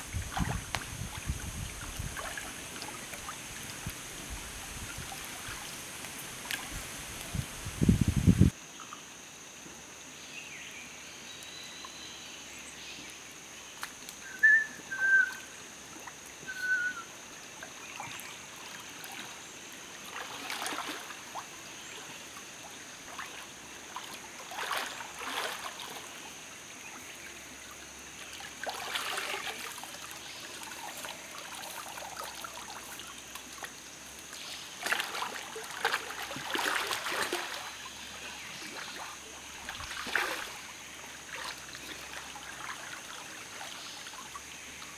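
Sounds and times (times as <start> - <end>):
water splashing and sloshing: 0.0 - 8.5, 17.2 - 44.9
stream trickling: 0.0 - 44.9.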